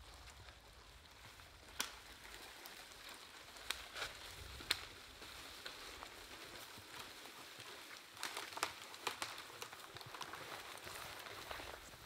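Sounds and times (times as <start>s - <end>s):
footsteps crunching through snow: 2.1s - 12.0s.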